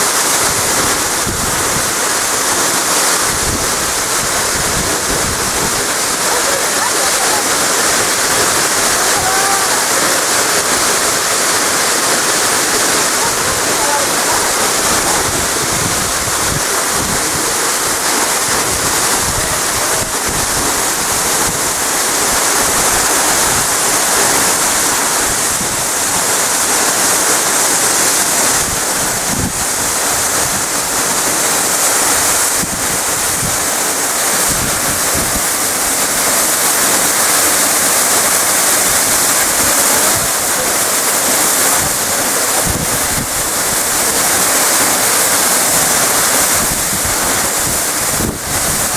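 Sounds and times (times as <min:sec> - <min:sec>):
waterfall roaring: 0:00.0 - 0:48.9
wind buffeting microphone: 0:00.4 - 0:26.7, 0:27.9 - 0:31.2, 0:32.2 - 0:37.3, 0:38.7 - 0:44.2, 0:45.7 - 0:48.9.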